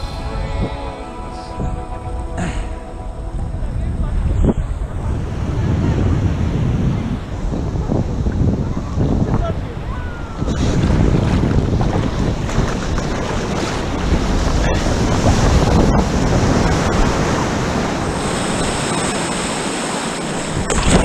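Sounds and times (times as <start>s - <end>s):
ocean surf rushing: 0.0s - 21.0s
wind noise on microphone: 0.0s - 21.0s.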